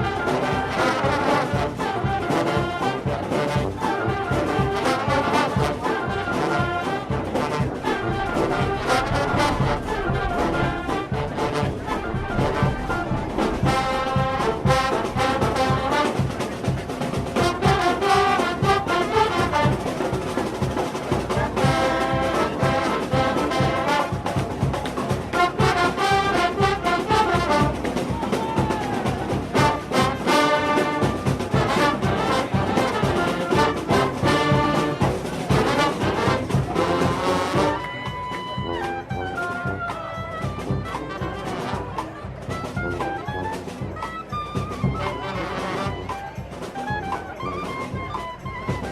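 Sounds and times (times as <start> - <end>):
brass music: 0.0 - 20.7, 21.3 - 24.4, 25.3 - 28.2, 29.3 - 48.9.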